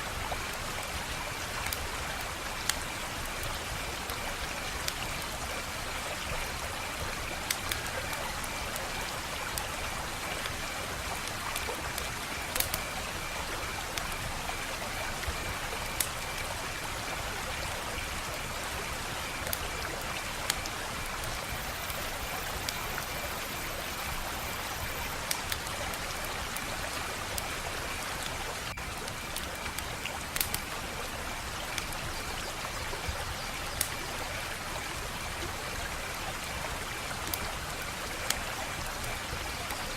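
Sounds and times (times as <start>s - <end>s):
wood fire crackling: 0.2s - 32.1s, 36.0s - 39.5s.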